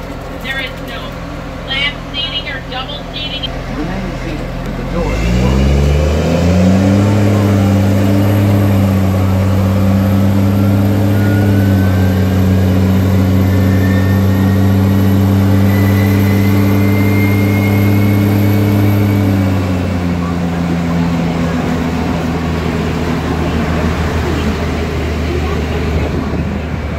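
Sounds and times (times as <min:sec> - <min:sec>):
tractor engine humming: 0:00.0 - 0:26.9.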